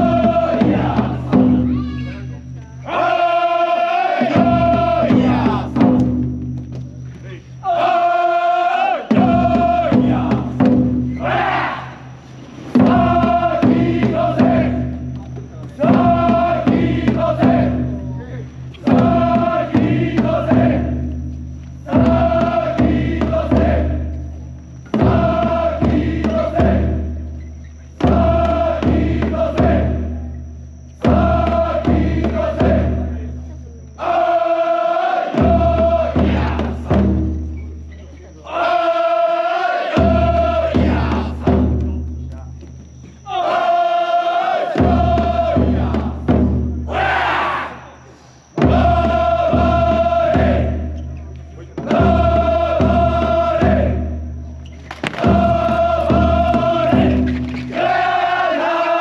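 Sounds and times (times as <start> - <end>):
heavy taiko drum beats: 0.0 - 3.2, 4.2 - 7.0, 9.0 - 33.8, 35.2 - 37.9, 39.9 - 42.6, 44.7 - 47.5, 48.6 - 51.0, 51.6 - 54.5, 55.2 - 58.1
men chanting in unison: 0.0 - 6.2, 7.2 - 37.6, 38.4 - 42.2, 43.0 - 59.0.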